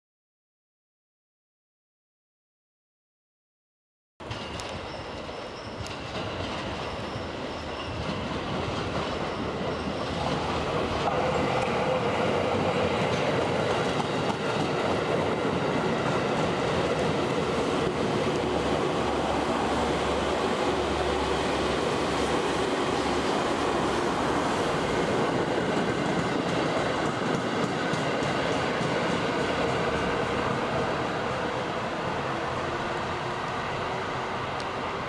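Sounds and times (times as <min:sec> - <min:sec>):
electric train passing: 0:04.2 - 0:35.0.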